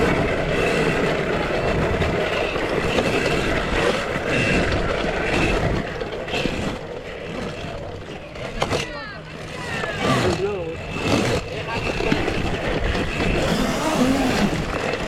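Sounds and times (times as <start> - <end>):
electric minibike running: 0.0 - 15.0
high motor whine: 0.0 - 15.0.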